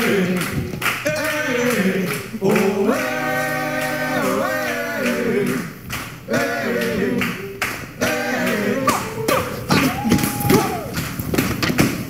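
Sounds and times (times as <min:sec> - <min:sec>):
male group singing a cappella: 0:00.0 - 0:09.8.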